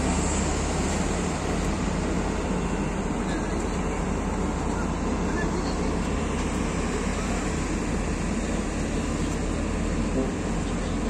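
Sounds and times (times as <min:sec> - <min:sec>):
constant wash of noise: 0:00.0 - 0:11.0
diesel engines idling: 0:00.0 - 0:11.0.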